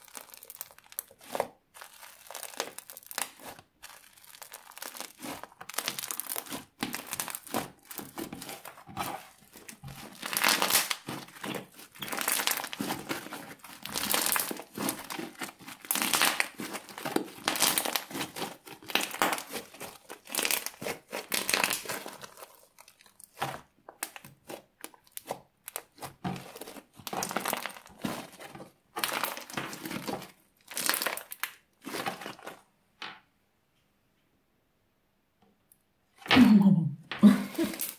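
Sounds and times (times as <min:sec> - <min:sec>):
air bubbles crackling and popping: 0:00.0 - 0:32.4
slime squeezed by hand: 0:00.0 - 0:32.6.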